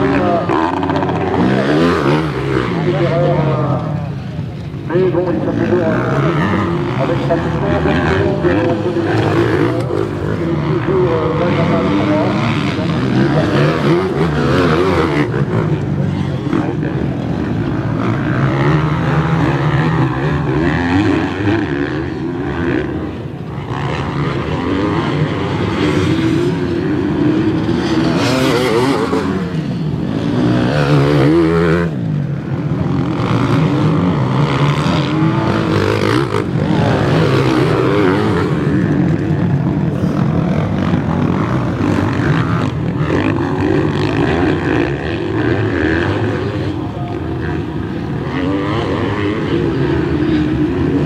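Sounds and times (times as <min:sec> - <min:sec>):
motocross bikes revving: 0:00.0 - 0:51.0.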